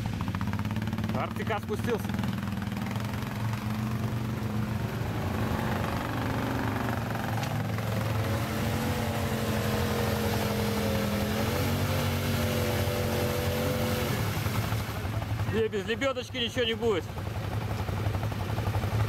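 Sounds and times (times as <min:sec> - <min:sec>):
quad engine revving: 0:00.0 - 0:15.7
quad engine running: 0:00.0 - 0:19.0.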